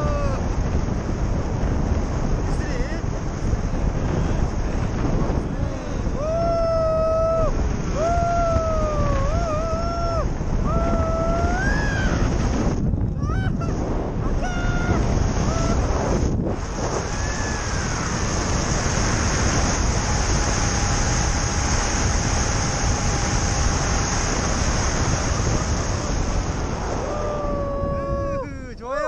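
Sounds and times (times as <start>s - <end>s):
strong wind buffeting microphone: 0.0s - 29.0s.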